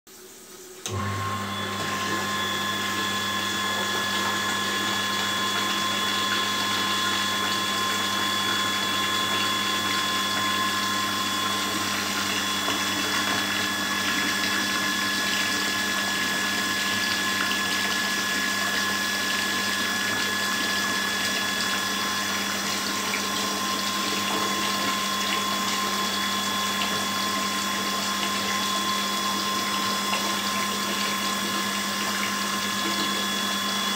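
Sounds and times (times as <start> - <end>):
electric pump humming: 0.1 - 33.9
water pouring into toilet bowl: 0.1 - 33.9.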